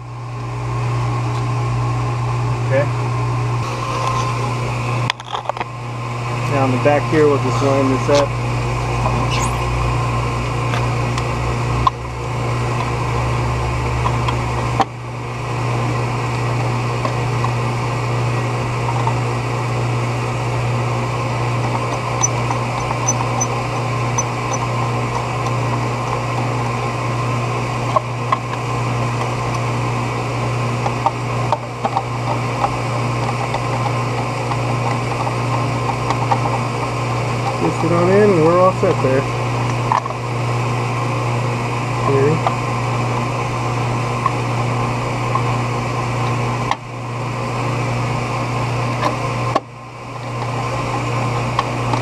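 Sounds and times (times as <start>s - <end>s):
pump motor humming: 3.6s - 52.0s.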